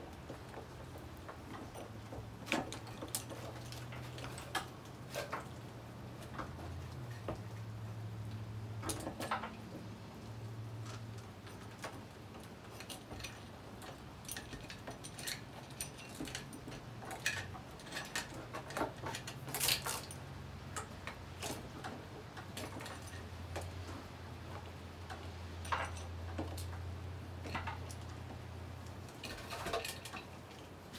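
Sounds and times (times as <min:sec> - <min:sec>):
chain links rattling: 0:00.2 - 0:05.5, 0:10.8 - 0:30.9.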